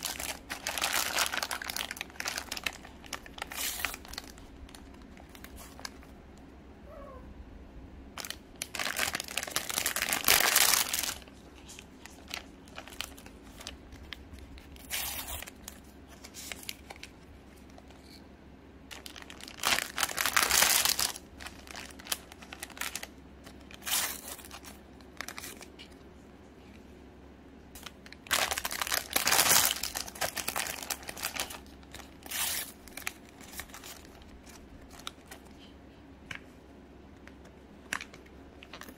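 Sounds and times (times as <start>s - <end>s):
plastic wrappers crinkling and tearing: 0.0s - 6.1s, 8.2s - 18.1s, 18.9s - 26.0s, 27.8s - 35.7s, 37.4s - 38.9s.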